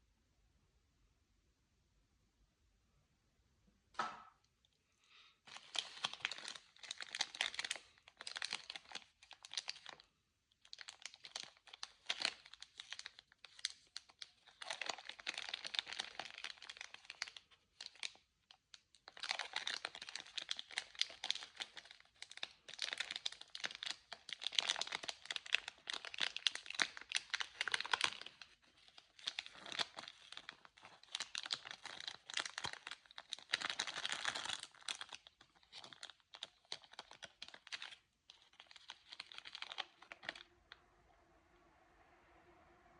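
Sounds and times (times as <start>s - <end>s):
candy wrappers crinkling: 5.4s - 40.8s.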